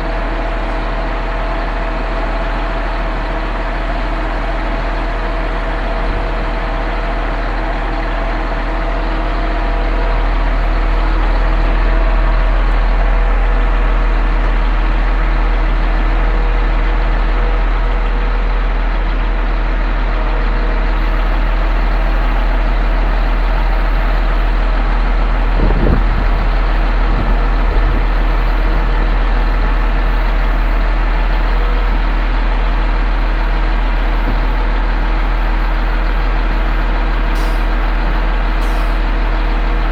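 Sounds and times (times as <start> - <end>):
pump truck engine drone: 0.0 - 39.9.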